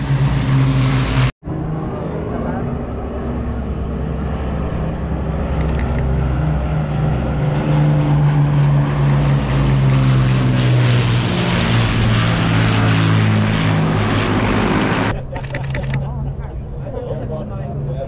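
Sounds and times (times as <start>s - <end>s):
propeller planes droning overhead: 0.0s - 18.0s.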